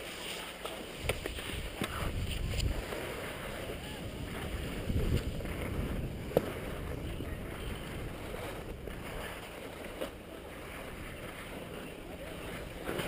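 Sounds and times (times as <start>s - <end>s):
skis scraping over snow: 0.0s - 13.0s
wind on microphone: 1.0s - 13.0s.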